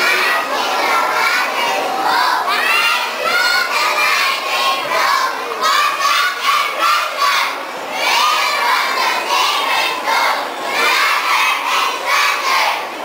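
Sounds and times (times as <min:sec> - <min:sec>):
children shouting in unison: 0:00.0 - 0:12.9.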